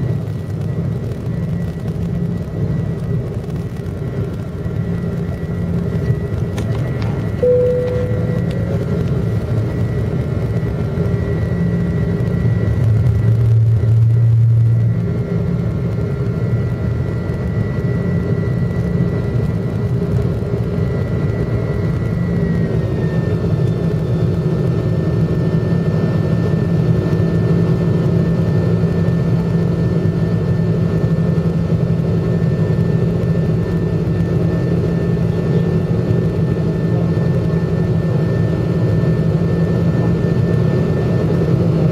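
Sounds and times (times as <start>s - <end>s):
jet engine whine and hum: 0.0s - 41.9s.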